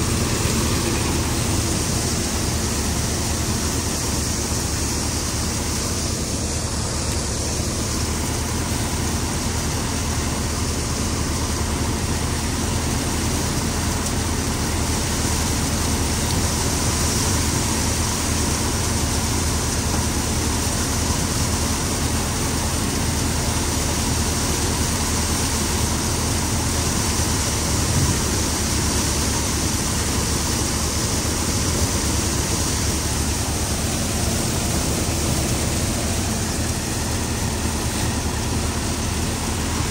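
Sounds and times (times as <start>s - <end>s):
thresher drum whirring: 0.0s - 39.9s
tractor engine drone: 0.0s - 39.9s.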